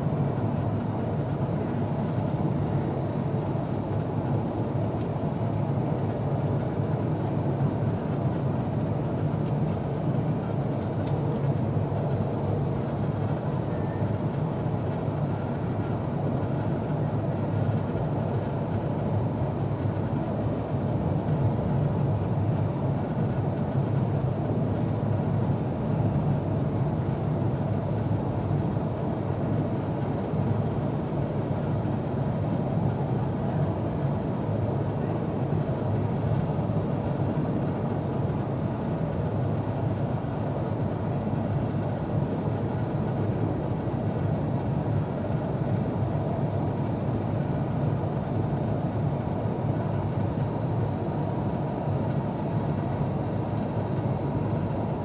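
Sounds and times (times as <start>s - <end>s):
airflow over the fuselage: 0.0s - 55.0s.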